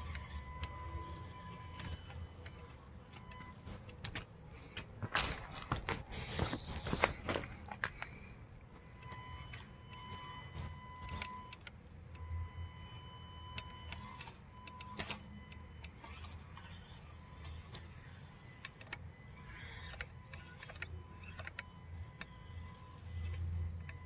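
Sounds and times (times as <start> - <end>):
rc truck motor whine: 0.0 - 4.2, 6.1 - 24.0.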